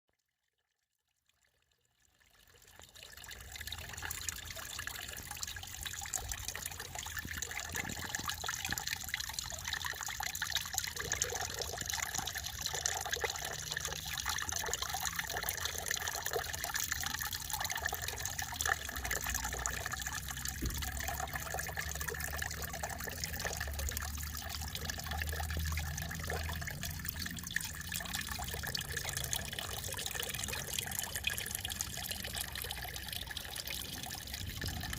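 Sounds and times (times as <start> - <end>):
water fountain splashing: 2.6 - 34.9.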